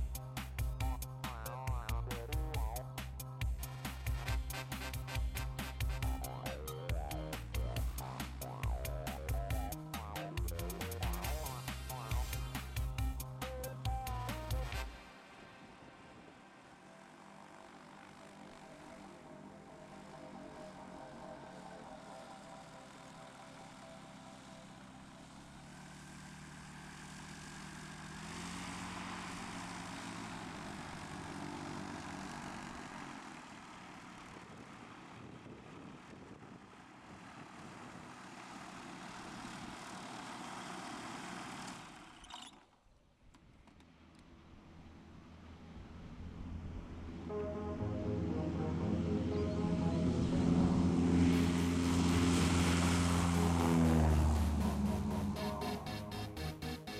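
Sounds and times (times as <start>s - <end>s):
aircraft engine and propeller: 0.0s - 56.9s.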